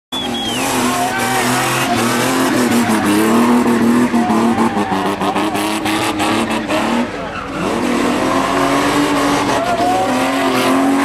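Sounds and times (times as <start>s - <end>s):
tyres squealing on dirt: 0.1s - 11.0s
engine revving high: 0.2s - 11.0s.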